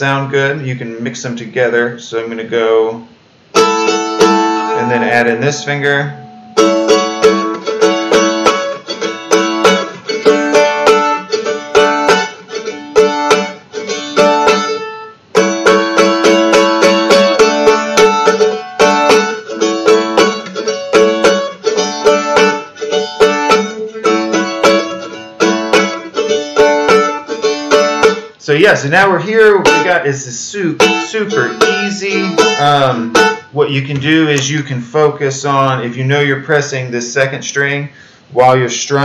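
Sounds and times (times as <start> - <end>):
mandolin strumming chords: 3.3 - 35.0.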